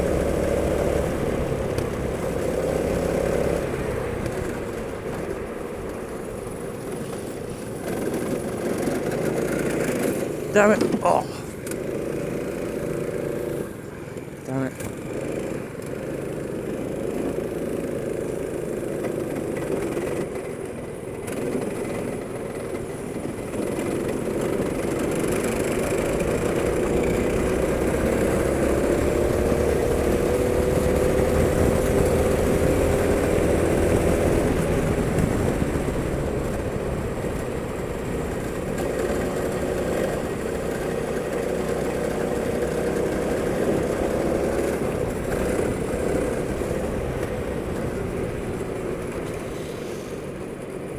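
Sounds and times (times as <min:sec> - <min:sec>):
go-kart engine running: 0:00.0 - 0:50.9.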